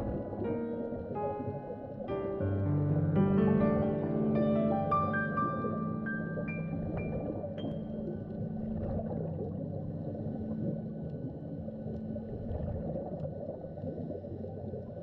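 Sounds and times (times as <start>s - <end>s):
underwater rumbling water noise: 0.0s - 15.0s
water gurgling: 0.0s - 15.0s.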